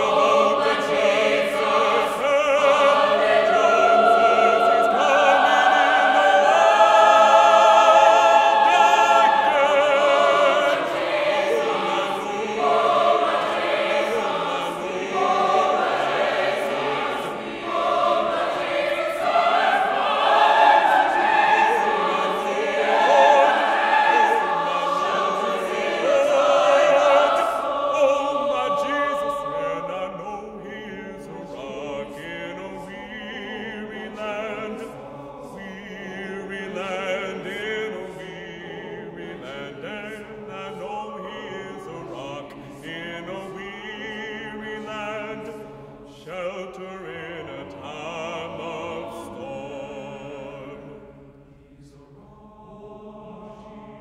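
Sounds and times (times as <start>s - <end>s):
baritone soloist singing: 0.0s - 17.0s, 21.6s - 51.0s
mixed choir singing: 0.0s - 54.0s.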